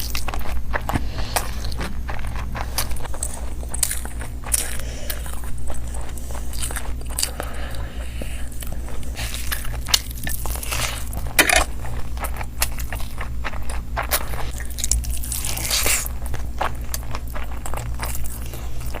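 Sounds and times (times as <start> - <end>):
chewing and crunching: 0.0 - 19.0.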